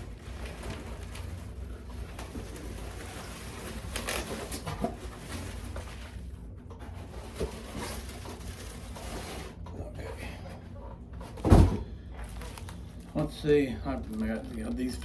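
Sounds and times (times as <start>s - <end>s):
plastic toys and packaging rustling: 0.0s - 15.0s
steady low hum: 0.0s - 15.0s.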